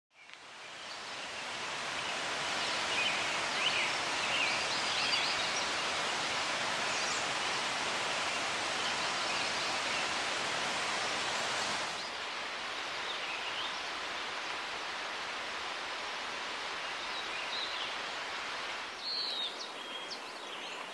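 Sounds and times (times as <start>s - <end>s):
mountain stream rushing: 0.2s - 20.9s.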